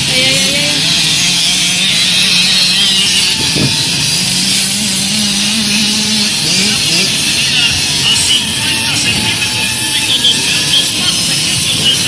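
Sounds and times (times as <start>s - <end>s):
motocross bike engines buzzing: 0.0s - 12.0s.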